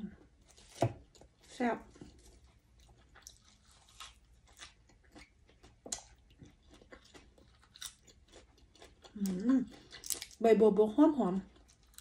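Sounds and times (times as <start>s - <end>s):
person chewing leaves: 0.4s - 10.4s, 11.5s - 12.0s.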